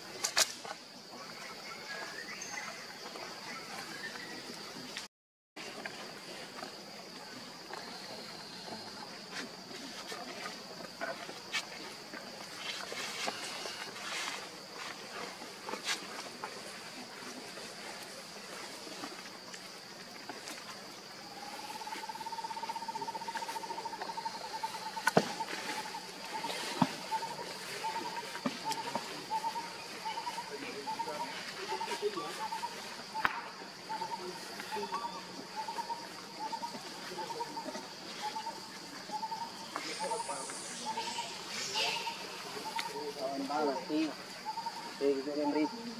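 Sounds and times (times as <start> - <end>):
faint high insect drone: 0.0 - 45.9
faint chirps and ticks: 5.7 - 45.9.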